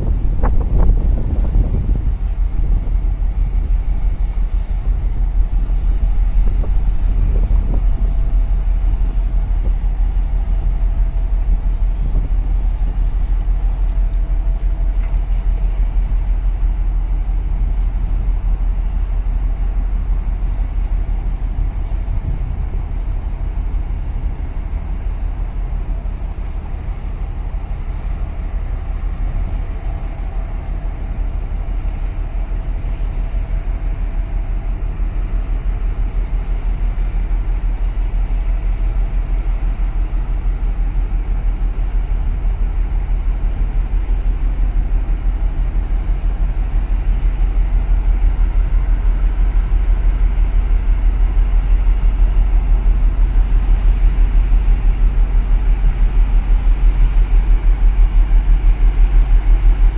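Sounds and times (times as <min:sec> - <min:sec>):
faint steady hum: 0:00.0 - 0:59.9
ship engine rumbling: 0:00.0 - 0:59.9
wind buffeting microphone: 0:00.0 - 0:59.9.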